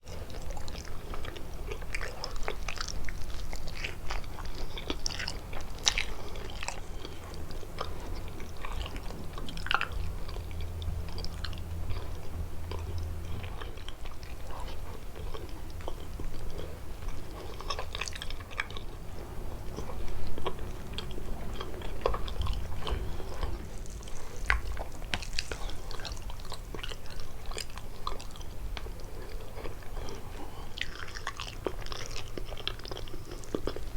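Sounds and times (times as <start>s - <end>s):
chewing and biting pastry: 0.1s - 33.9s.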